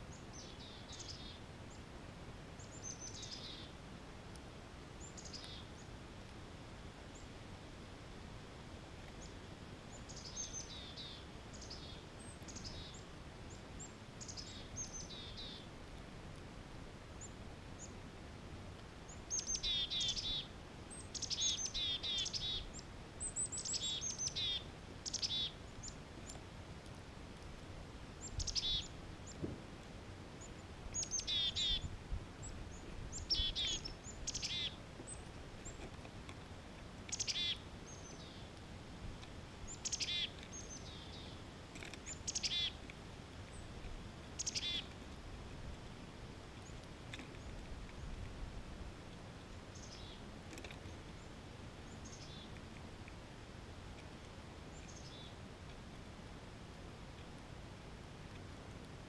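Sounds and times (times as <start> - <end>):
songbird singing: 0.0 - 1.9, 2.5 - 3.8, 4.9 - 6.3, 7.0 - 7.6, 8.9 - 16.4, 17.0 - 56.0.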